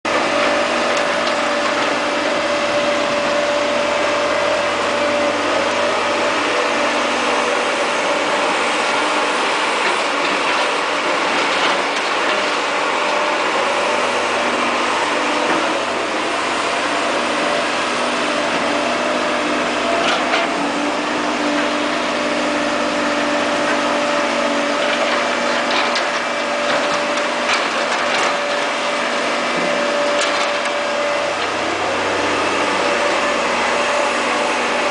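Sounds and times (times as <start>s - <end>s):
excavator running with whine: 0.0s - 34.9s.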